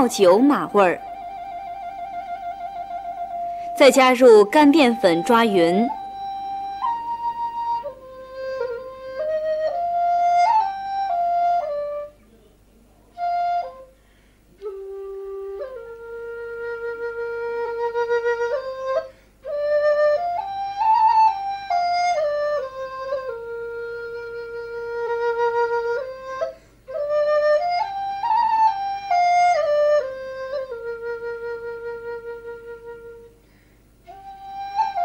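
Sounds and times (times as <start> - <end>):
flute melody: 0.0 - 12.3, 13.1 - 14.0, 14.6 - 33.4, 34.0 - 35.0.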